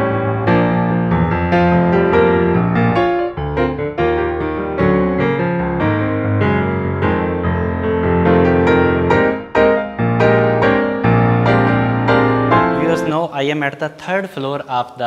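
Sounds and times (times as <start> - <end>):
piano playing: 0.0 - 13.8.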